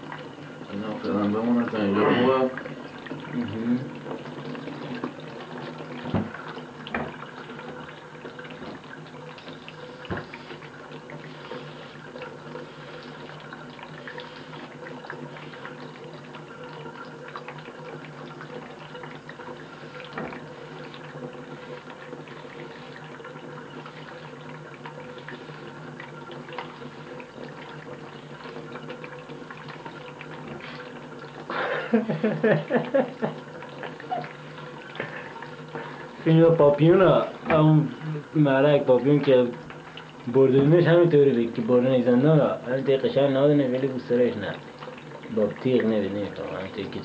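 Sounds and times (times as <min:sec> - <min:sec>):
water running into sink: 0:00.0 - 0:47.0.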